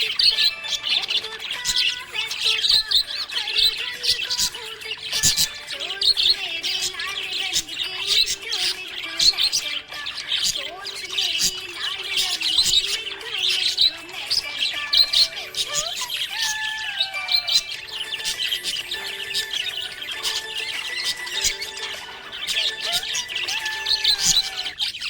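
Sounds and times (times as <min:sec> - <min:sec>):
budgerigar chirping and warbling: 0:00.0 - 0:25.0.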